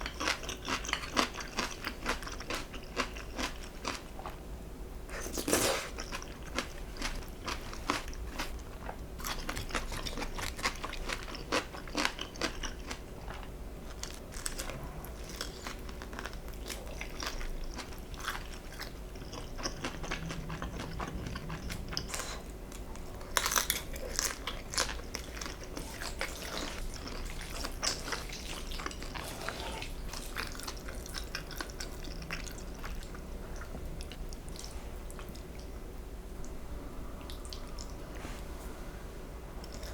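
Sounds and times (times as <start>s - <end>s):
person chewing: 0.0s - 4.4s, 5.1s - 35.8s.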